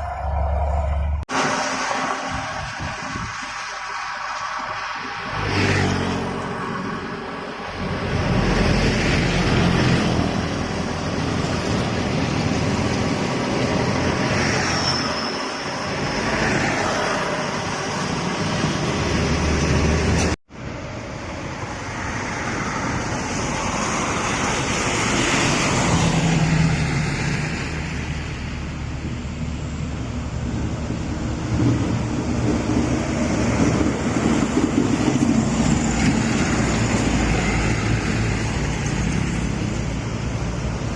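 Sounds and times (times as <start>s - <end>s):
cars and trucks passing: 0.0s - 40.9s.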